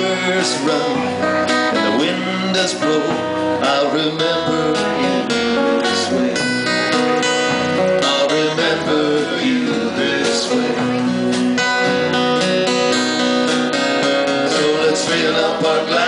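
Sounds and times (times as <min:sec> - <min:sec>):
drum kit: 0:00.0 - 0:16.0
strummed acoustic guitars: 0:00.0 - 0:16.0.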